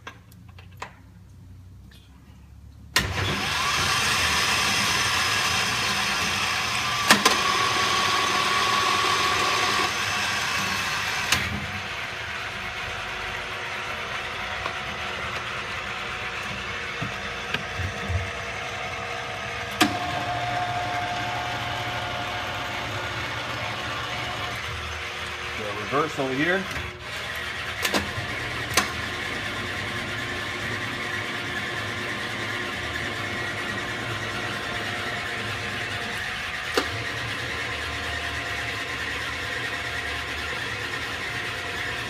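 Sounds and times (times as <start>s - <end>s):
lathe running with a whir: 3.0s - 42.0s.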